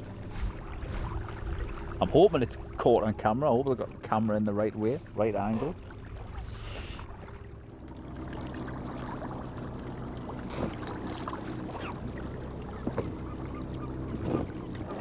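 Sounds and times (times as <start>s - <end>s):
low steady hum: 0.0s - 15.0s
small water splashes: 0.0s - 15.0s
water lapping against kayak hull: 0.0s - 15.0s.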